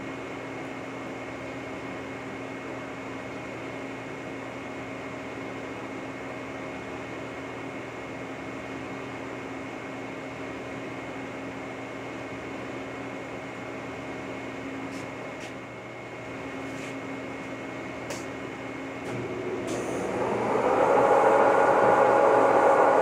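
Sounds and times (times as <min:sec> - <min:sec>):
boring mill humming and whining: 0:00.0 - 0:23.0.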